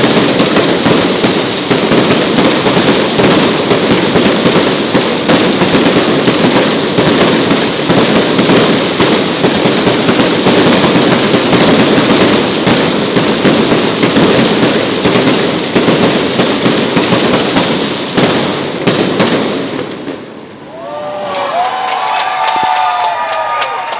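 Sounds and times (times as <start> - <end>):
fireworks crackling: 0.0 - 20.6.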